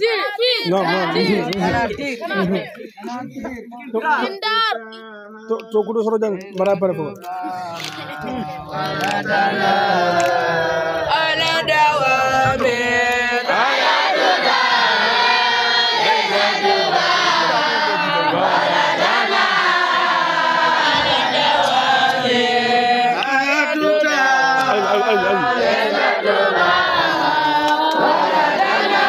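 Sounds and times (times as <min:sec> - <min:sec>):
boys chanting in unison: 0:00.0 - 0:05.9, 0:06.9 - 0:29.0.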